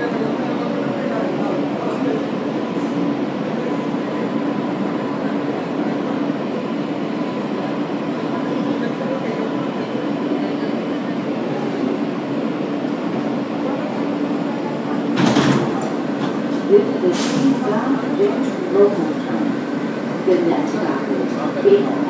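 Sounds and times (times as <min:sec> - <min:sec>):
subway car running rumble: 0:00.0 - 0:22.0.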